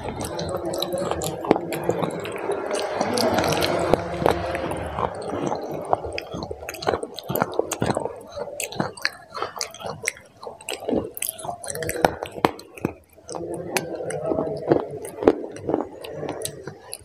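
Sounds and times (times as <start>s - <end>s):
biting and chewing chocolate: 0.0s - 17.0s.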